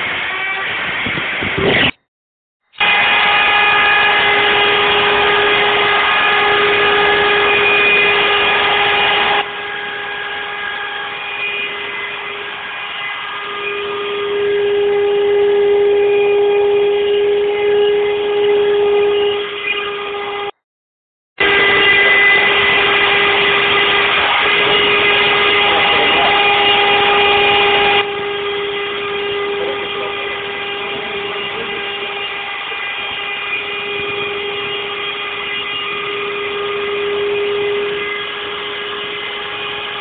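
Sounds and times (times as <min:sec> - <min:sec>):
machine whining: 0:00.0 - 0:02.0, 0:02.7 - 0:20.6, 0:21.4 - 0:40.0.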